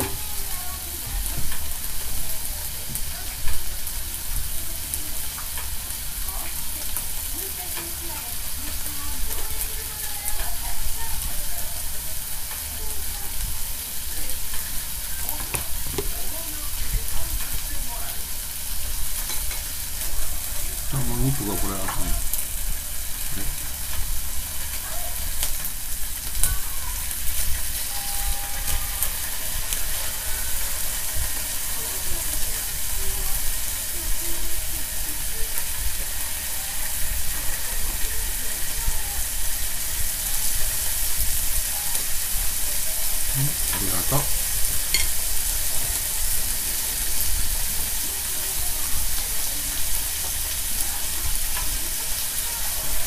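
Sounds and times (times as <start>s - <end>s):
food sizzling on hot plate: 0.0s - 53.0s.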